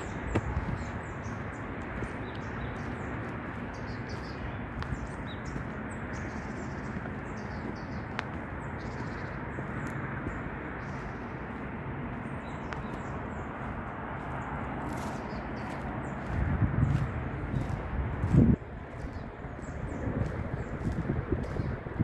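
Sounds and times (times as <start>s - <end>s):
small birds chirping: 0.0s - 22.0s
steady rushing noise: 0.0s - 22.0s.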